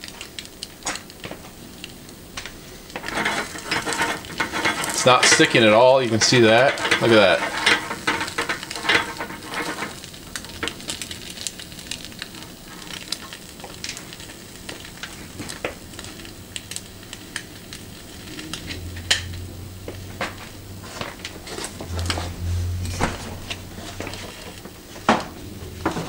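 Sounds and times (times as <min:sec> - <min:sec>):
egg sizzling in a pan: 0:00.0 - 0:26.0
low steady hum: 0:00.0 - 0:26.0.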